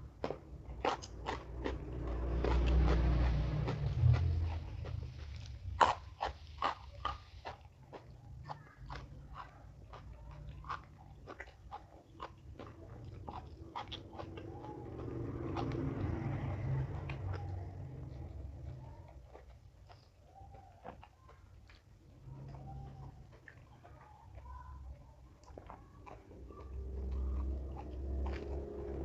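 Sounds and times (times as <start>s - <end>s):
chewing crunchy raw vegetables: 0.0s - 29.0s.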